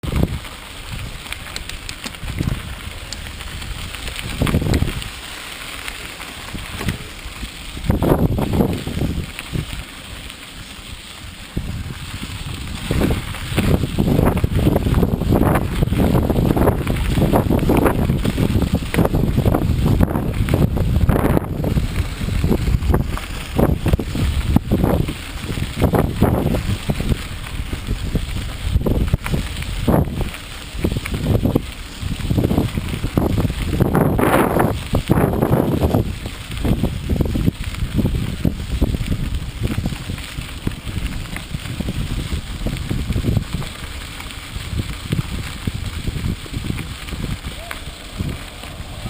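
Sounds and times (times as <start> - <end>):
bike rattling over rough ground: 0.0 - 49.0
wind buffeting microphone: 0.0 - 49.0.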